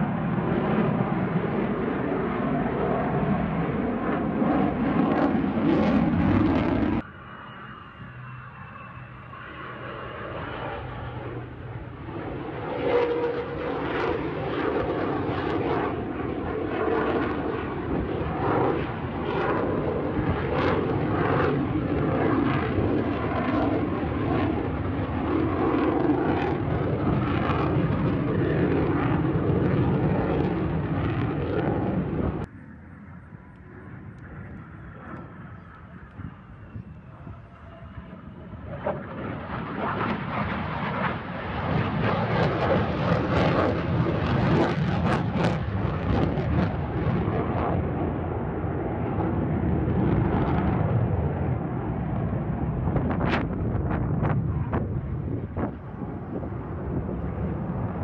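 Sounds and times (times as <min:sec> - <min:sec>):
fighter jet flying past: 0:00.0 - 0:58.0.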